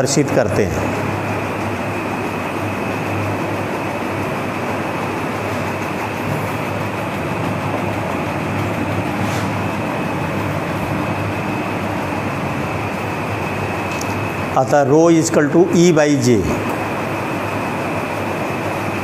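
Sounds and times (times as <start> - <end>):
machine whirring: 0.0 - 19.0.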